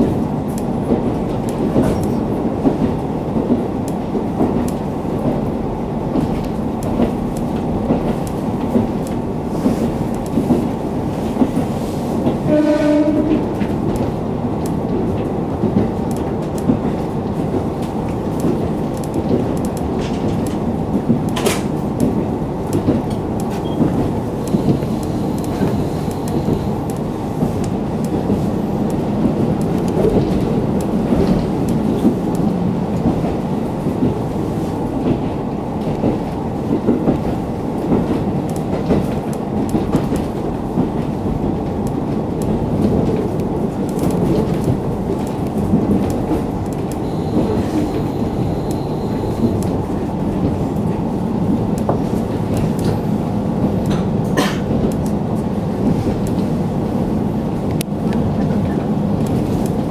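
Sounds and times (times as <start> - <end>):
rail joint clicks: 0.0 - 59.9
train running noise: 0.0 - 59.9.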